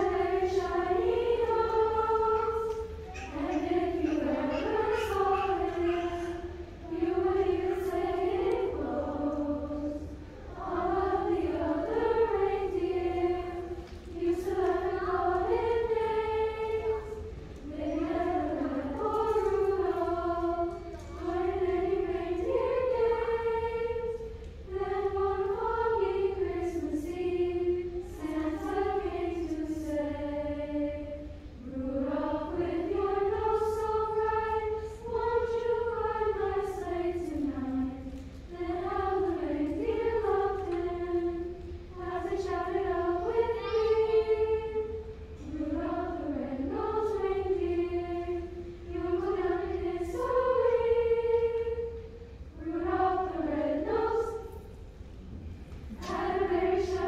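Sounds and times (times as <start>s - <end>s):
girls choir singing: 0.0s - 57.0s.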